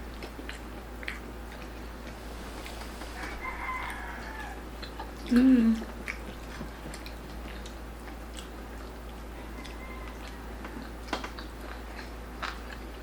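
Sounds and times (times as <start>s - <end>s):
chewing crispy pork crunches: 0.0s - 13.0s.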